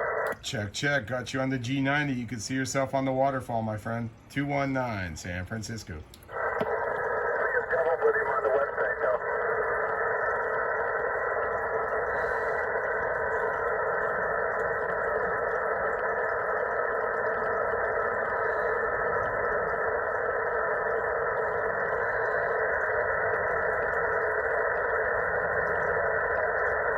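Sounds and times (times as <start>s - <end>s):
radio static hiss: 0.0s - 26.9s.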